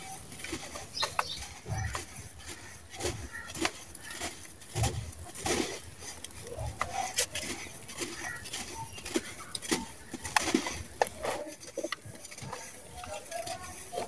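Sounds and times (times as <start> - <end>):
dry sand crunching in hands: 0.0 - 14.0
gritty lumps crackling: 0.0 - 14.0.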